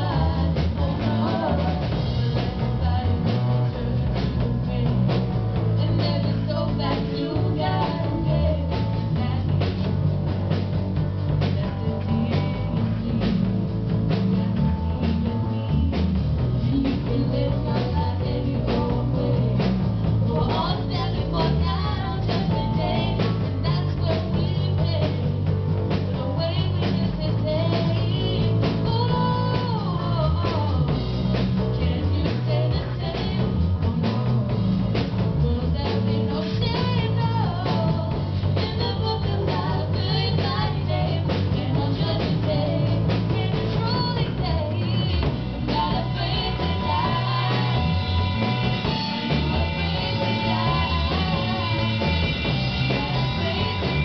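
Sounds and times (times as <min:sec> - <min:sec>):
woman singing into microphone: 0:00.0 - 0:10.2, 0:11.3 - 0:16.0, 0:16.6 - 0:54.0
worship song by live band: 0:00.0 - 0:54.0.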